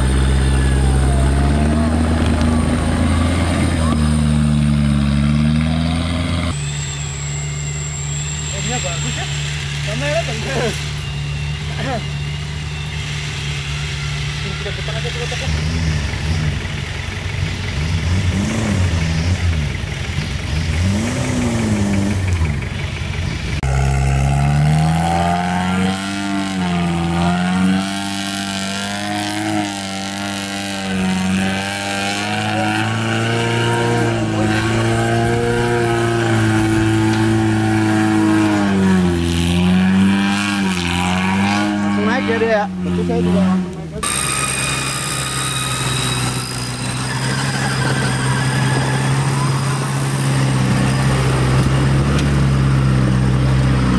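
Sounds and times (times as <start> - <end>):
off-road engine revving: 0.0 - 53.9.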